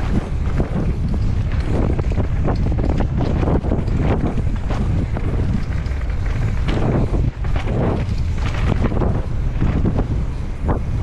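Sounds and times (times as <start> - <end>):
bike rattling over rocks: 0.0 - 11.0
bike tyre rumble: 0.0 - 11.0
wind buffeting microphone: 0.0 - 11.0.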